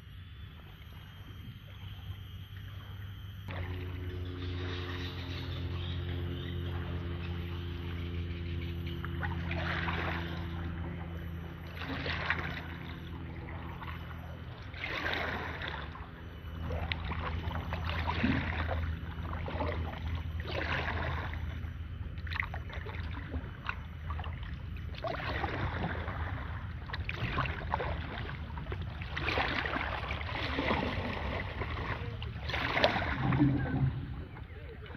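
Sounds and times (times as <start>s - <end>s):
low steady hum: 0.0s - 34.9s
kayak paddle splashing: 0.5s - 34.9s.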